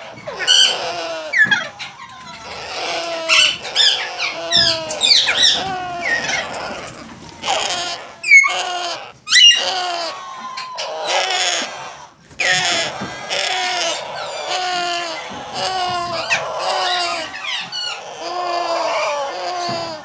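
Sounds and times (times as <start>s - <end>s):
parrot calls and squawks: 0.0s - 20.0s.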